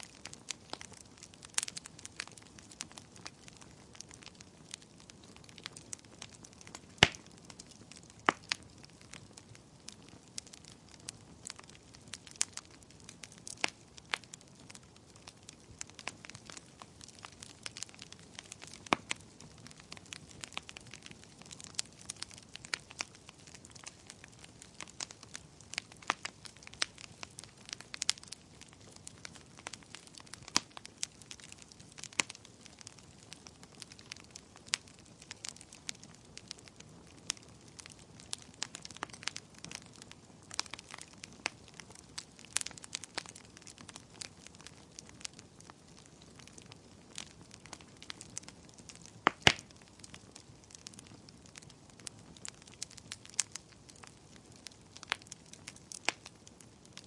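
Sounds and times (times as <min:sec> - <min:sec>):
bonfire crackling and popping: 0:00.0 - 0:57.0
hiss of burning wood: 0:00.0 - 0:57.0.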